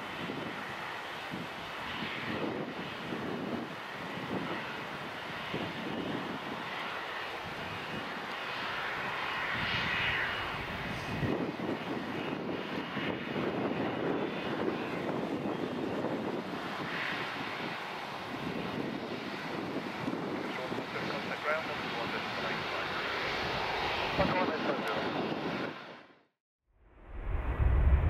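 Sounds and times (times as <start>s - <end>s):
airliner engine rushing: 0.0s - 26.2s, 26.9s - 28.0s.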